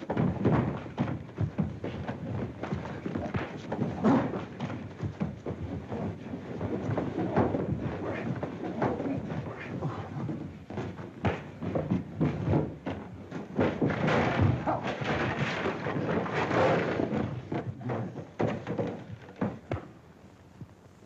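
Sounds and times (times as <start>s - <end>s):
thuds and knocks of scuffle: 0.0s - 20.0s.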